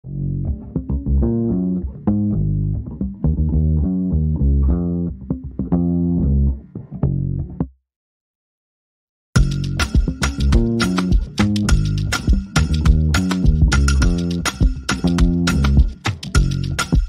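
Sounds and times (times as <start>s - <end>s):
bass guitar and guitar music: 0.0s - 7.8s, 9.4s - 17.0s.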